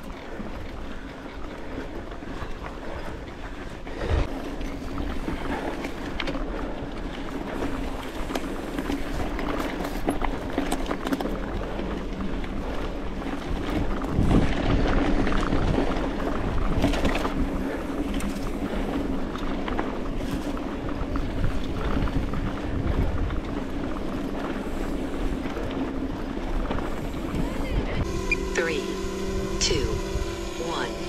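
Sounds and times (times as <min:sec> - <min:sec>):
wind noise on microphone: 0:00.0 - 0:28.4.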